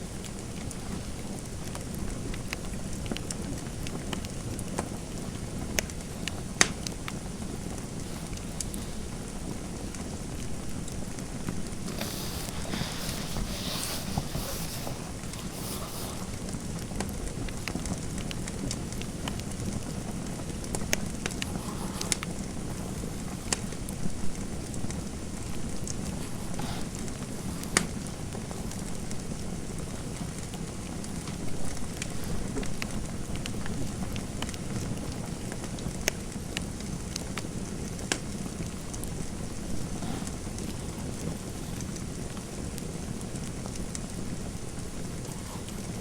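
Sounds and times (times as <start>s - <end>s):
fire crackling and popping: 0.0s - 46.0s
low rushing hiss of fire: 0.0s - 46.0s.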